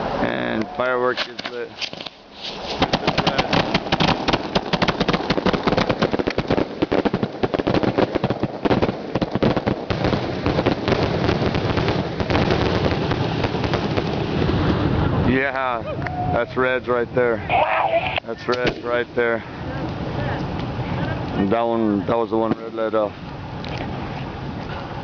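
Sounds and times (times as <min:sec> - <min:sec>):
fireworks cracking and popping: 0:01.1 - 0:15.4, 0:17.5 - 0:19.2, 0:19.8 - 0:24.0.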